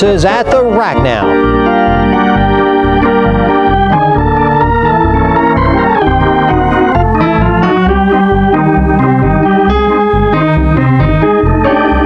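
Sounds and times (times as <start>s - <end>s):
organ music: 0.0s - 12.0s.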